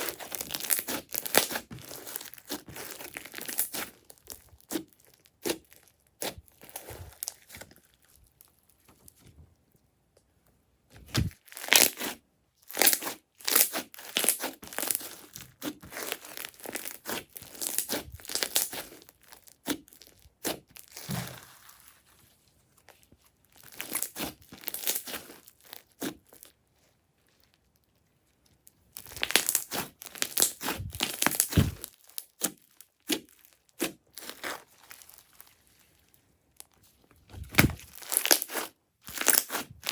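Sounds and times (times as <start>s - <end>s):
crunchy slime crackling: 0.0s - 9.2s, 11.0s - 39.9s.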